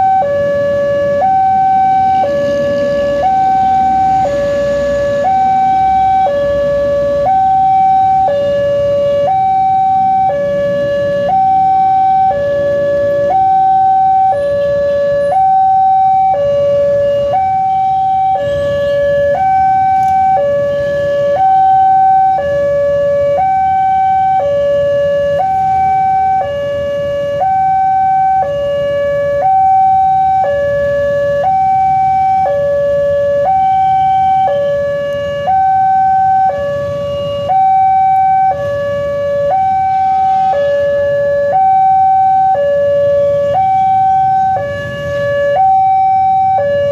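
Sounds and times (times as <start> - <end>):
level-crossing two-tone alarm: 0.0 - 46.9.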